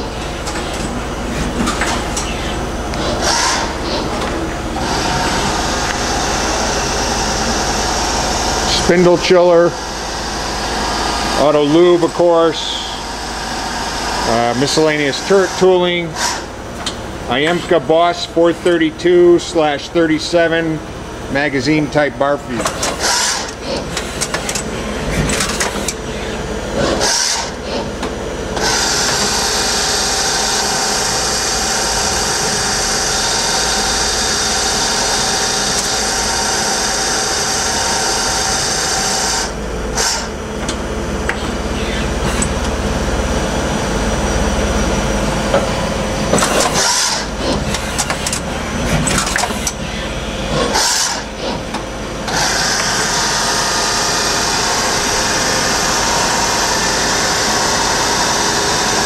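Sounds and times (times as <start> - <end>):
lathe whirring hiss: 0.0 - 16.6, 22.7 - 59.0.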